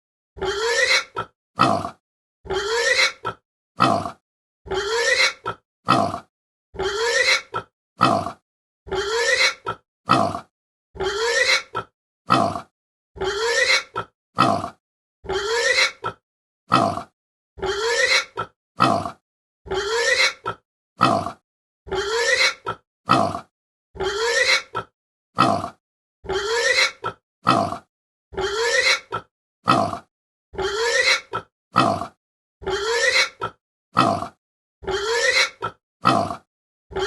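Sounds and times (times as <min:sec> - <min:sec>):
pig grunting: 0:00.4 - 0:37.0.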